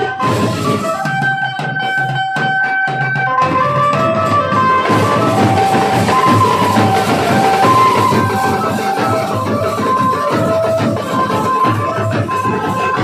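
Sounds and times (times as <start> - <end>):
melody of held notes: 0.0 - 13.0
side drums: 0.0 - 13.0.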